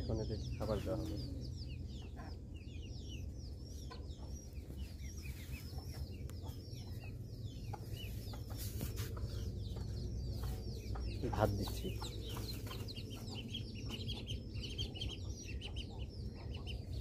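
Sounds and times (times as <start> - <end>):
ducklings peeping: 0.0 - 17.0
steady low hum: 0.0 - 17.0.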